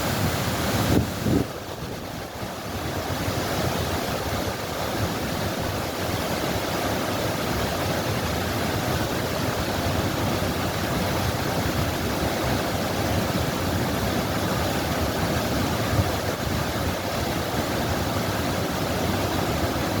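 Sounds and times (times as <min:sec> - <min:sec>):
running water rushing: 0:00.0 - 0:20.0.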